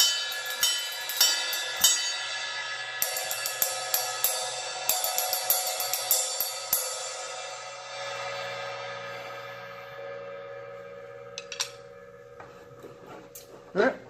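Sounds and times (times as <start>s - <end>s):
ride cymbal struck and ringing: 0.0s - 13.5s.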